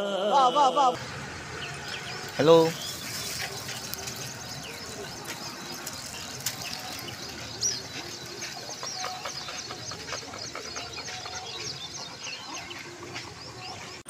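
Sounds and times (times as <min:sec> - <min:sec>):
street background noise: 0:00.1 - 0:14.0
birds chirping: 0:01.0 - 0:14.0.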